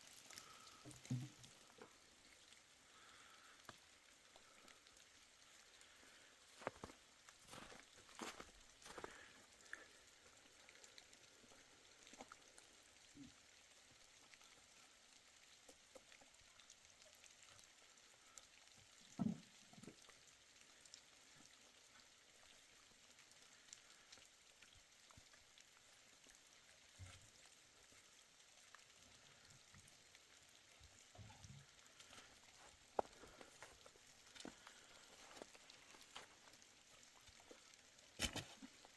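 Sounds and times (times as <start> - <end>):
faint steady hiss: 0.0 - 38.9.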